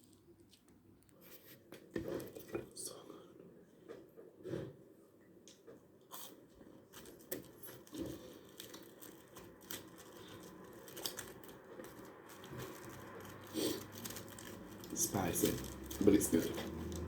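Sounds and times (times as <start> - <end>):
food crackling while chewed: 0.0 - 2.8, 5.5 - 17.0.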